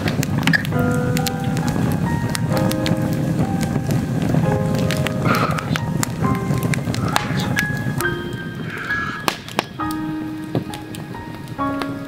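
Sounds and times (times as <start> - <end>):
background music with held notes: 0.2 - 12.0.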